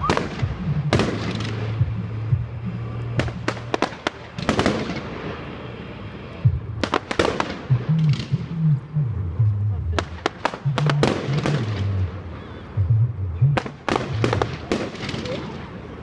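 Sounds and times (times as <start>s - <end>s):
fireworks banging and crackling: 0.0s - 8.6s, 9.9s - 12.1s, 13.6s - 16.0s.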